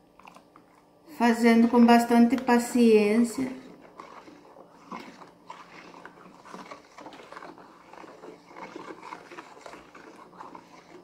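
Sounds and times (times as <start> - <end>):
stick stirring foamy liquid: 0.2 - 11.0.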